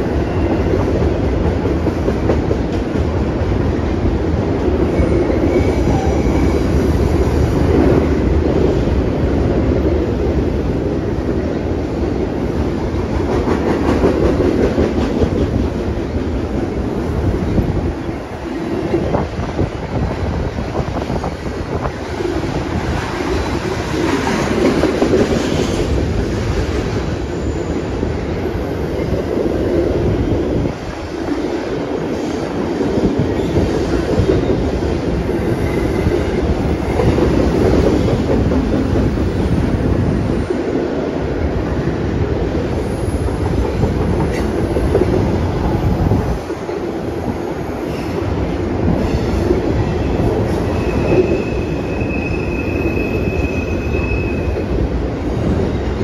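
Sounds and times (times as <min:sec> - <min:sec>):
train wheels rumbling and clattering: 0:00.0 - 0:56.0.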